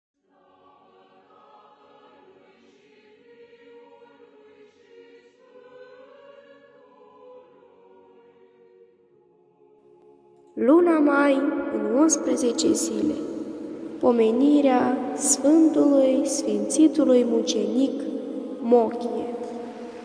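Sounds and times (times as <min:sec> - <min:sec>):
faint choir singing: 0:00.2 - 0:10.5, 0:11.5 - 0:20.0.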